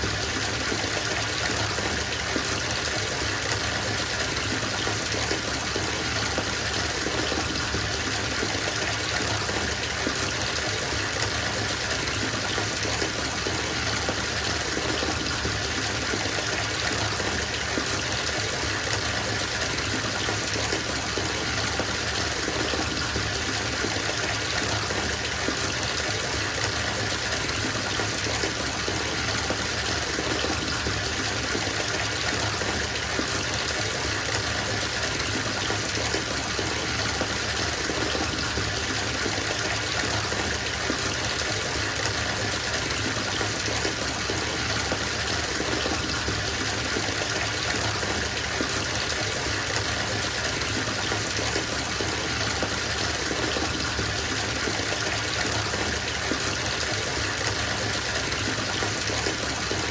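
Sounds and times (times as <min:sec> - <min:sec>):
water gushing into bathtub: 0:00.0 - 0:59.9.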